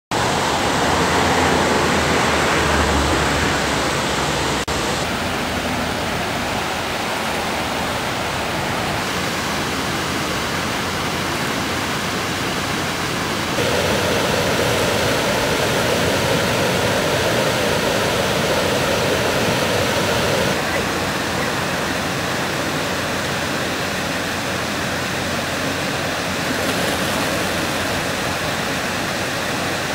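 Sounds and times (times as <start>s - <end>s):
flowing water rushing: 0.1s - 29.9s.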